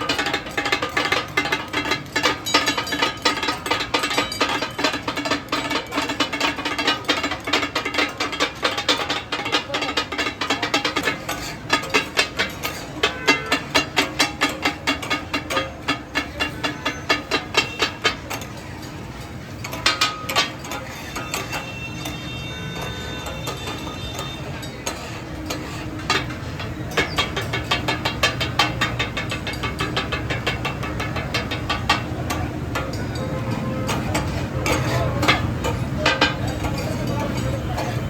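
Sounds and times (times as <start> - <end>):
metal spatulas clanging on iron: 0.0 - 38.0.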